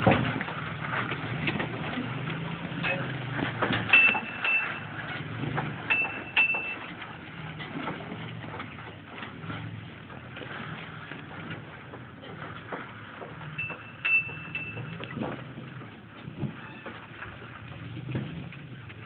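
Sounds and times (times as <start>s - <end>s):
knocks and creaks on rock: 0.0s - 19.0s
truck engine running low: 0.0s - 19.0s.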